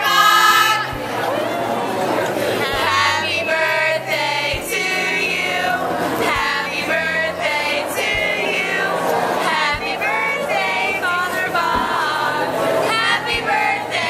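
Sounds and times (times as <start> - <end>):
women singing with slow beat: 2.6 - 14.0.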